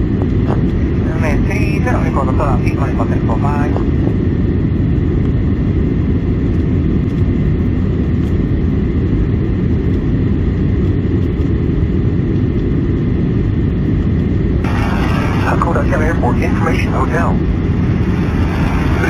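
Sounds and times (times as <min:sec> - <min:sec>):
airplane cabin drone: 0:00.0 - 0:19.0.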